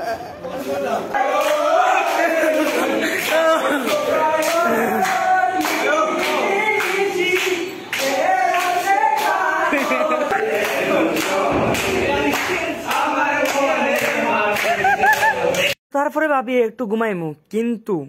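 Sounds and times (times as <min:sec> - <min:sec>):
young men singing in chorus: 0:00.8 - 0:15.7
hands clapping to a beat: 0:01.3 - 0:15.8.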